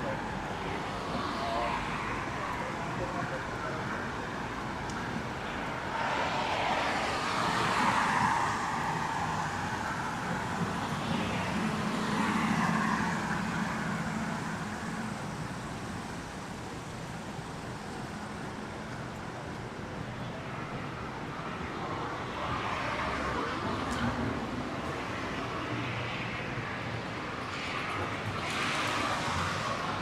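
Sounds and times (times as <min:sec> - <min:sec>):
road noise: 0:00.0 - 0:30.0
vehicles passing: 0:00.0 - 0:30.0.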